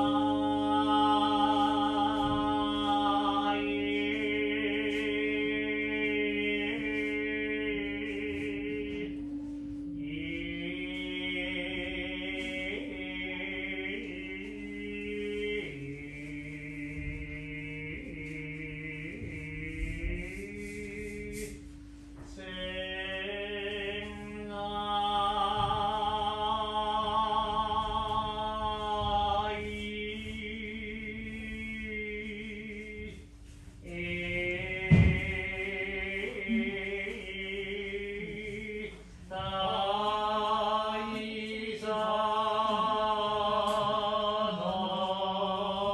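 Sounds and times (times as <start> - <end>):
slow chanted singing: 0.0 - 45.9
steady low drone: 0.0 - 45.9.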